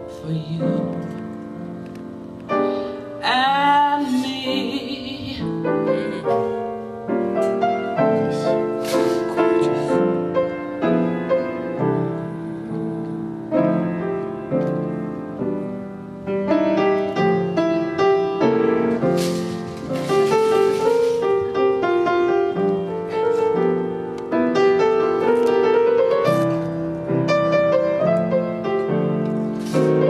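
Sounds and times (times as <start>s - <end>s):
piano playing chords and melody: 0.0s - 30.0s.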